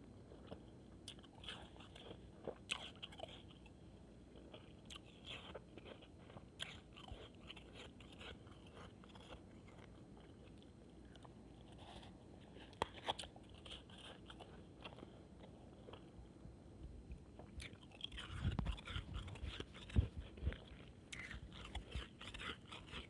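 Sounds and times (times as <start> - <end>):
person chewing shaved ice: 0.3 - 16.1, 17.4 - 23.0.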